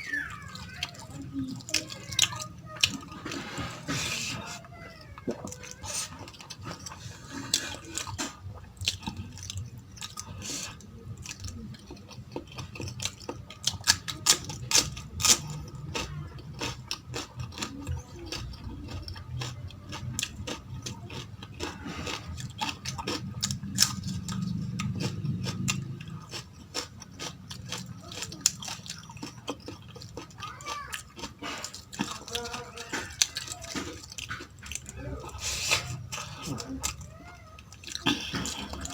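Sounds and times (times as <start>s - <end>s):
person chewing with wet smacks: 0.4s - 38.9s.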